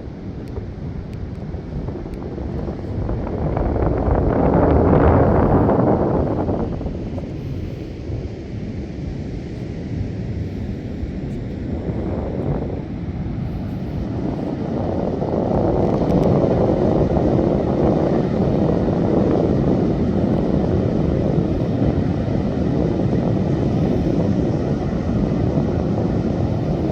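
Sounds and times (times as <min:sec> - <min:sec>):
wind on microphone: 0:00.0 - 0:26.9.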